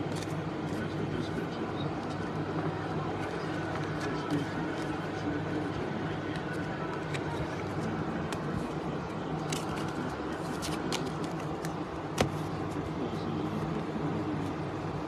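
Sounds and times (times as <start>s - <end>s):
trading cards being handled: 0.0s - 0.9s, 3.1s - 14.6s
steady low hum: 0.0s - 15.0s.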